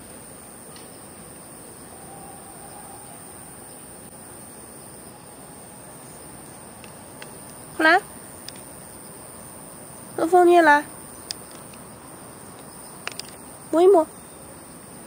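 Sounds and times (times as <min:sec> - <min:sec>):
crickets chirring: 0:00.0 - 0:15.0
outdoor background hiss: 0:00.0 - 0:15.0.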